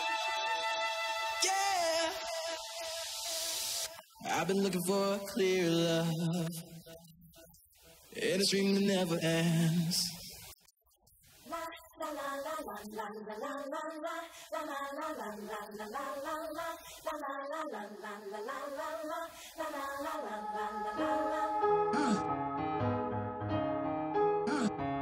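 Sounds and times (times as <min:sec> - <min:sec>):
person singing: 0:00.0 - 0:07.0, 0:11.5 - 0:25.0.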